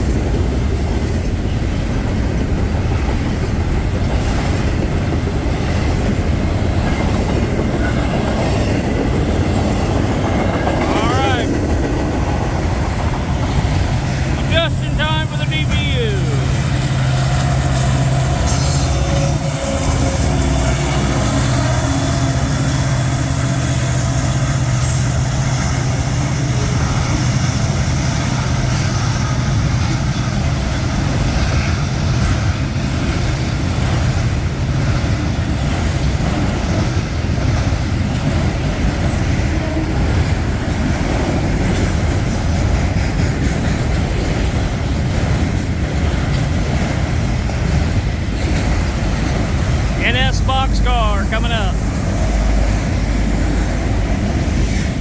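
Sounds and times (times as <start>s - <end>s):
diesel locomotive engine drone: 0.0s - 55.0s
rail cars rumbling and rattling: 0.0s - 55.0s.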